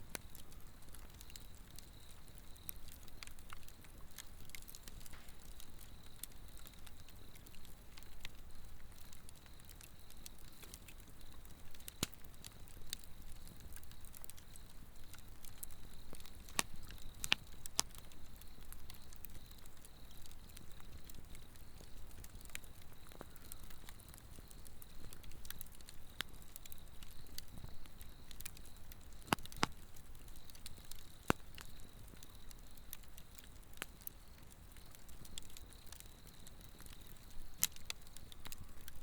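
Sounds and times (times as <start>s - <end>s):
fire crackles and pops: 0.0s - 39.0s
low rumble of flame: 0.0s - 39.0s
insects trilling: 0.1s - 39.0s.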